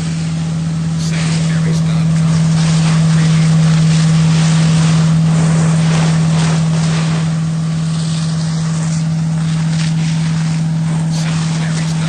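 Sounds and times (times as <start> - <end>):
truck engine droning: 0.0 - 12.0
water stream spraying: 0.0 - 12.0.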